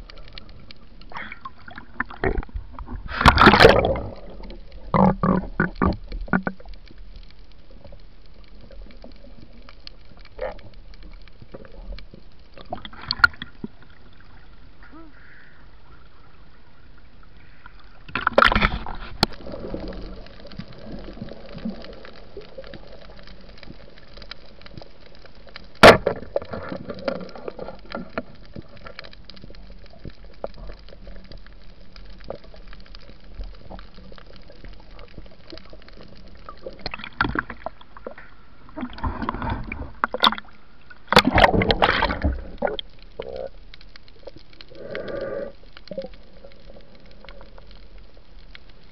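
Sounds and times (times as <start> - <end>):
water sloshing and gurgling: 0.0 - 48.9.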